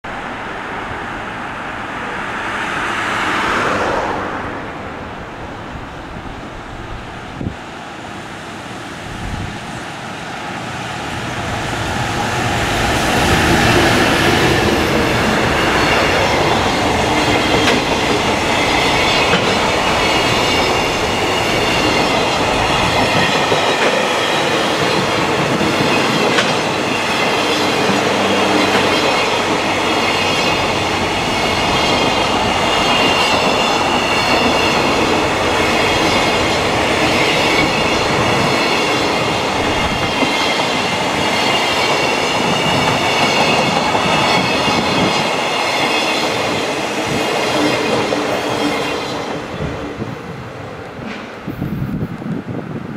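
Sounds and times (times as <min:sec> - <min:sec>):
freight train passing: 0:00.0 - 0:52.9
train wheels rumbling: 0:08.8 - 0:52.9.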